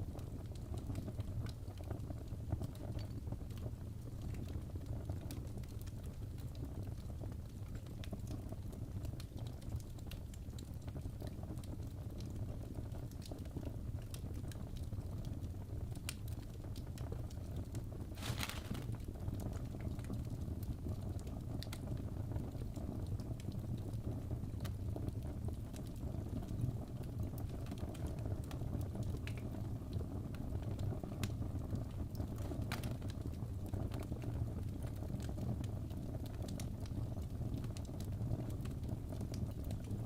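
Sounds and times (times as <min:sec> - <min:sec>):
fire burning rumble: 0:00.0 - 0:40.0
fire crackles: 0:00.0 - 0:40.0.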